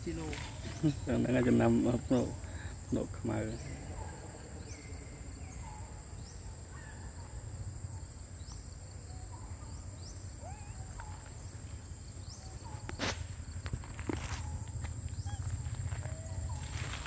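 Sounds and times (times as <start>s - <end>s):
birds chirping: 0.0s - 17.0s
lower bird calls: 0.0s - 17.0s.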